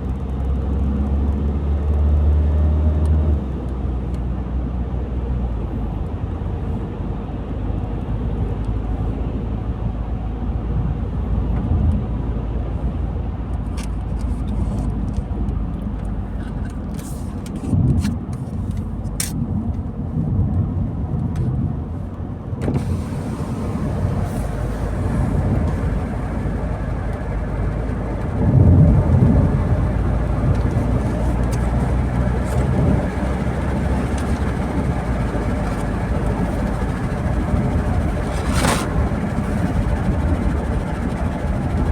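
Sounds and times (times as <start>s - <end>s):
car engine and tyre rumble: 0.0s - 41.9s.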